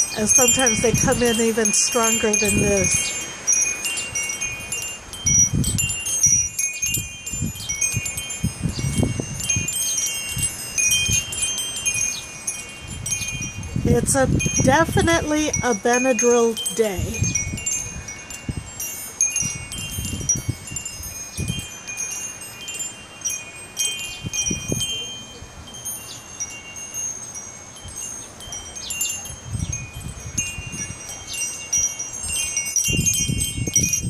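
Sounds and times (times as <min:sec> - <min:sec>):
wind buffeting microphone: 0:00.0 - 0:34.0
wind chimes ringing: 0:00.0 - 0:34.0.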